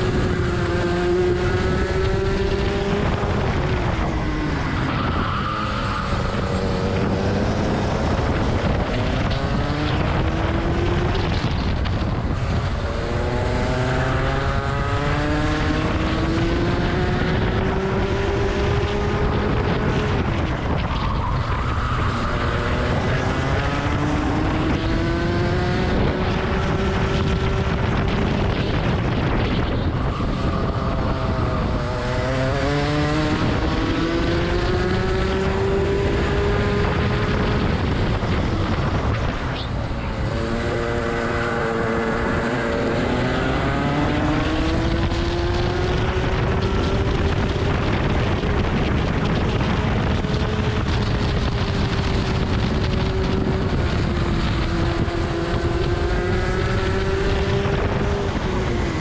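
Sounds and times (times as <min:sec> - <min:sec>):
kart engine revving: 0:00.0 - 0:59.0
wind rumble: 0:00.0 - 0:59.0.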